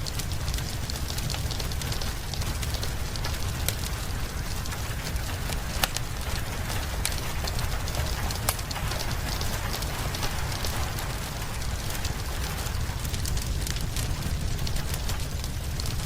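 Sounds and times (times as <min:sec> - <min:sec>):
low steady rumble: 0:00.0 - 0:16.0
steady rain hissing: 0:00.0 - 0:16.0
wood fire crackling: 0:00.0 - 0:16.0.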